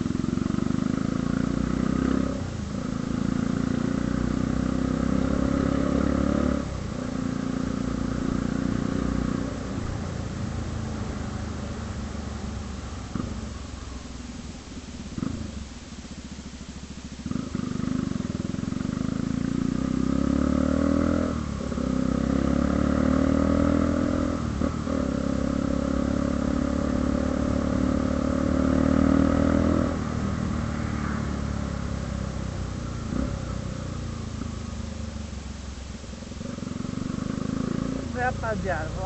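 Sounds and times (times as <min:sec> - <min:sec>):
motorcycle accelerating: 0:00.0 - 0:39.0.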